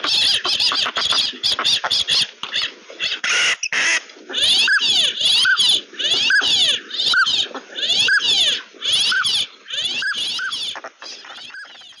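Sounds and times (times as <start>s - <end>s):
ducks whistling calls: 0.0s - 12.0s
raspy duck calls: 0.0s - 12.0s.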